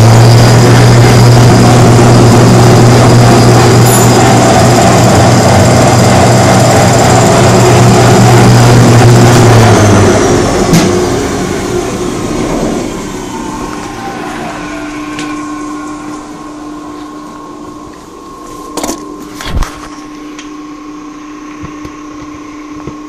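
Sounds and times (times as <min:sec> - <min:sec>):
turbine winding down: 0:00.0 - 0:19.8
vacuum cleaner running: 0:00.0 - 0:23.0.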